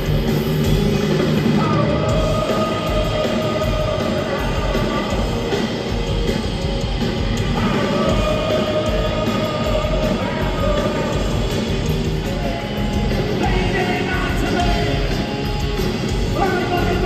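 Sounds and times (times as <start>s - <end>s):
live heavy rock band: 0.0s - 17.0s.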